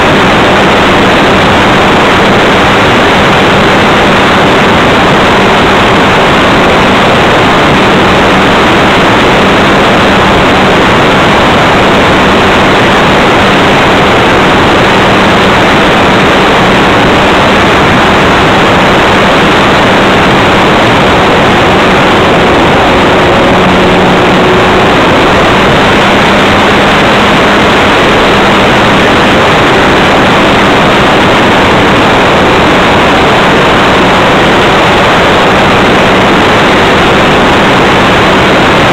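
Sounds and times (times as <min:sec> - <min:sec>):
wind and propeller rush: 0:00.0 - 0:38.9.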